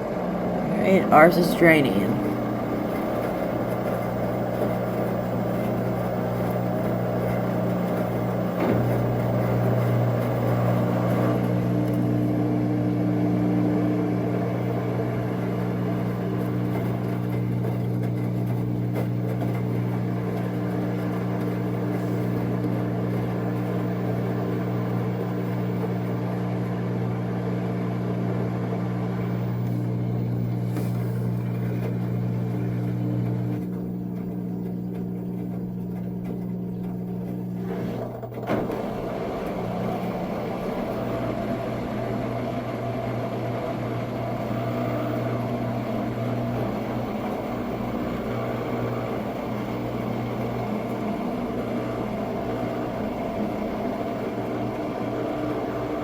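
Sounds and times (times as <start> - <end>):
washing machine drain pump humming: 0.0 - 56.0.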